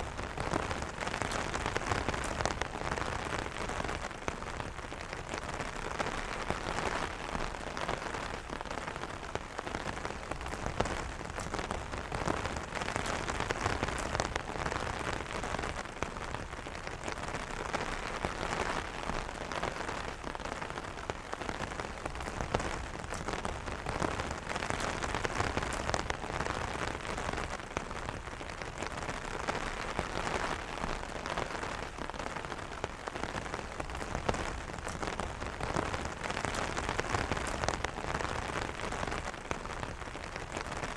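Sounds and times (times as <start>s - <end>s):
rain pattering on an umbrella: 0.0s - 40.9s.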